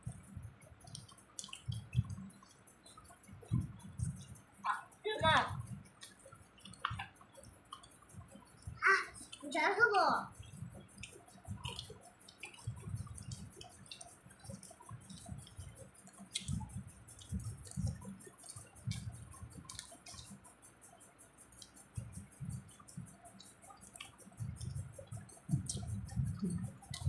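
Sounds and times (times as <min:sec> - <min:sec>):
soft clicks and drips: 0:00.0 - 0:27.0
wet chewing: 0:00.1 - 0:09.6, 0:10.3 - 0:20.5, 0:21.5 - 0:27.0.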